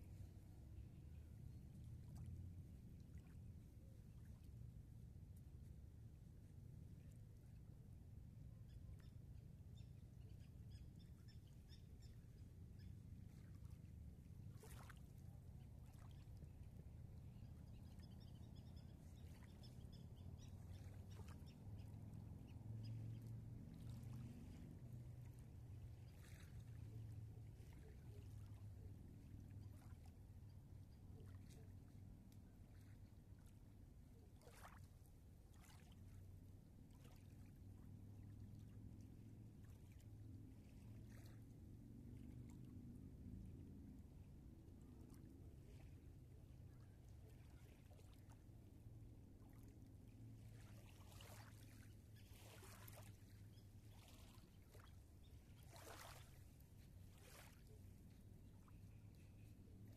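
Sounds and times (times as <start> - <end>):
low steady rumble: 0.0 - 59.9
small waves lapping at shore: 0.0 - 59.9.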